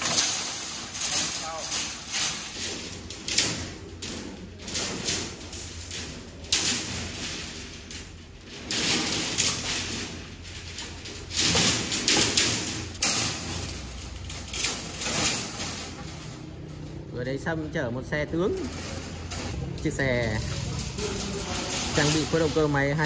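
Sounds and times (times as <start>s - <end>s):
rebar scraping over concrete: 0.0s - 23.0s
steel bars rattling together: 0.0s - 23.0s.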